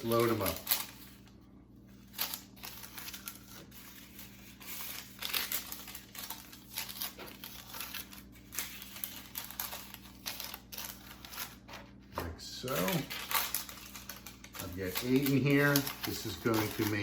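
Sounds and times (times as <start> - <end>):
wax paper crinkling: 0.0 - 17.0.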